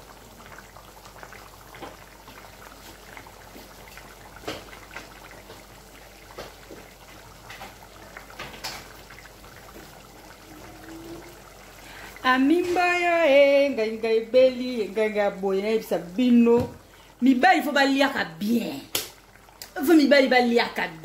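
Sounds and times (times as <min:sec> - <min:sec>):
soup bubbling in a pot: 0:00.0 - 0:21.0.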